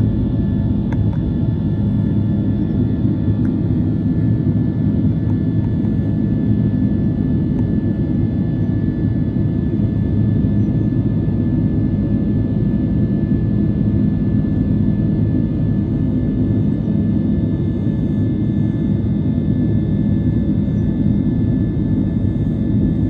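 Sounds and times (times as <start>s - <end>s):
high engine whine: 0.0s - 23.0s
jet engines rumbling: 0.0s - 23.0s.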